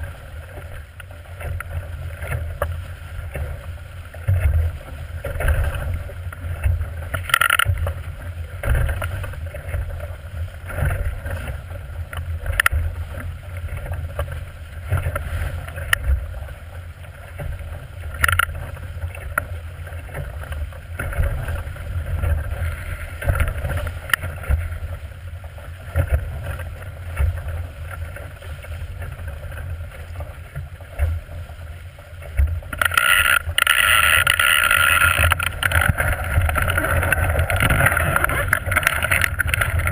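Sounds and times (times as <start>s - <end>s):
water splashing against a hull: 0.0s - 39.9s.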